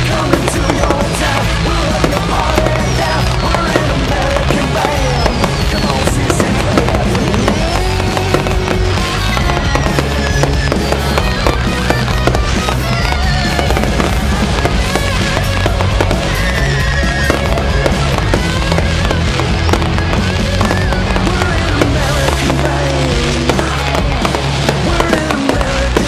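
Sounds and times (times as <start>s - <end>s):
background music: 0.0s - 26.0s
fireworks bangs and crackles: 0.0s - 26.0s.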